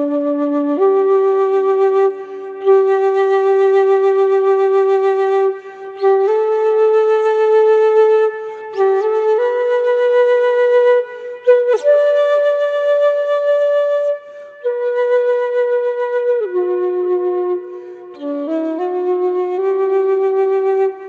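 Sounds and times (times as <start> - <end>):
solo flute melody: 0.0 - 21.0.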